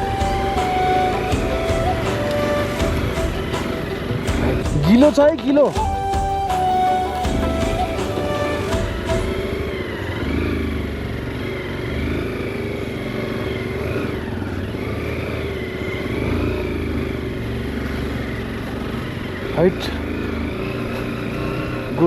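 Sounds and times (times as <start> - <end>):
motorcycle engine revving: 0.0 - 5.4, 7.2 - 22.0.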